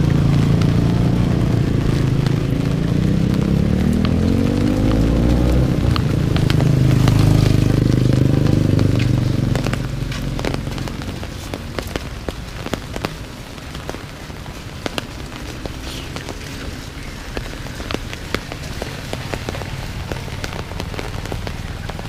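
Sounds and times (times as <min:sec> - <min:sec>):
sharp raindrop ticks: 0:00.0 - 0:22.0
steady rain: 0:00.0 - 0:22.0
vehicle engine passing: 0:00.0 - 0:22.0.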